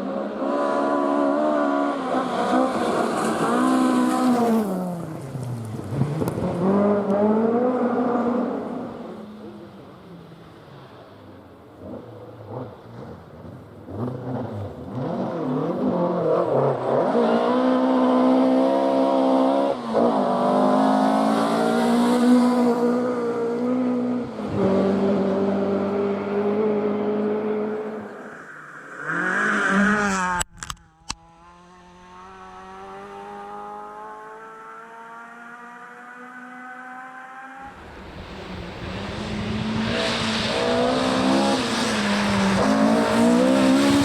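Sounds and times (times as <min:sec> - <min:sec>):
rally car engine at full throttle: 0:00.0 - 0:44.0.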